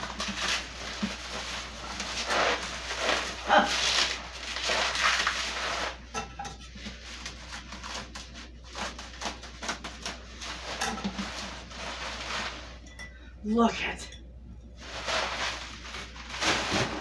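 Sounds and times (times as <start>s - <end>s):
plastic and bubble wrap crinkling: 0.0s - 13.0s, 14.8s - 17.0s.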